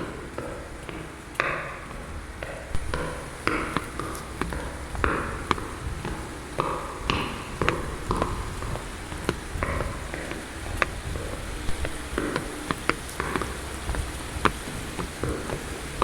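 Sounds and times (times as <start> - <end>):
low steady rumble: 0.0 - 16.0
sharp ringing knocks: 0.0 - 16.0.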